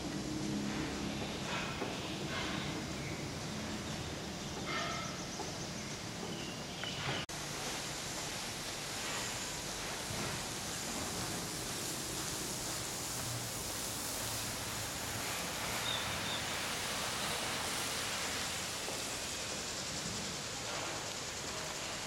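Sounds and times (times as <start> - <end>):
steady outdoor hiss: 0.0 - 22.0.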